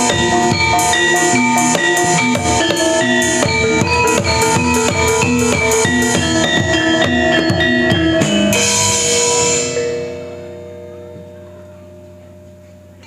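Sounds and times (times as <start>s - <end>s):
cymbal crash: 0.0s - 11.6s
drums: 0.0s - 13.0s.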